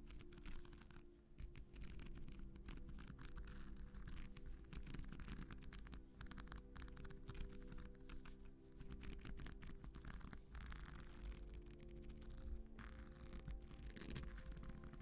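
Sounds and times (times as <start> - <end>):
sequin sheet being scratched: 0.0 - 15.0
soft background music: 0.0 - 15.0.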